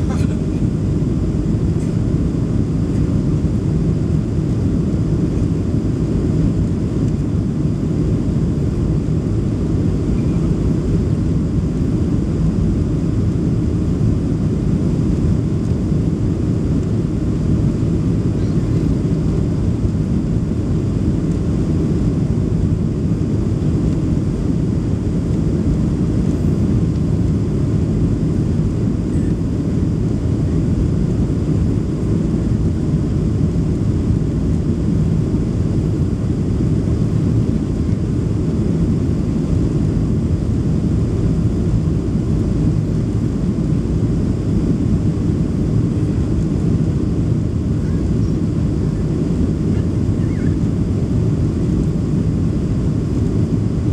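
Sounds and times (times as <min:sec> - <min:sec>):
jet airliner cabin rumble: 0:00.0 - 0:53.9.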